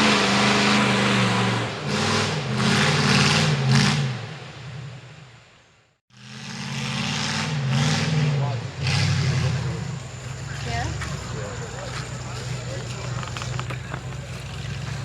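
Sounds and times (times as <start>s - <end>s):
loud truck engine revving: 0.0s - 4.4s, 6.1s - 15.0s.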